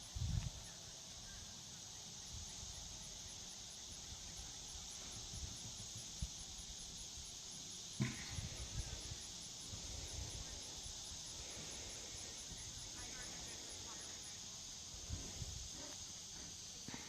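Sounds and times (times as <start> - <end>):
fast repeating insect chirp: 0.0 - 17.0.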